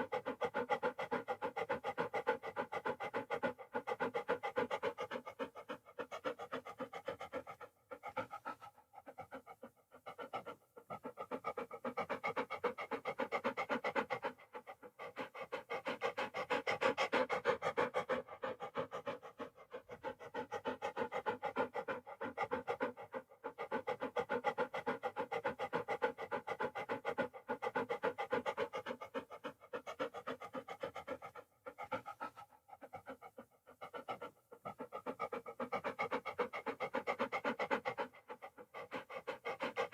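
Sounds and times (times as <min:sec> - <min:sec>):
dog panting: 0:00.0 - 0:39.9.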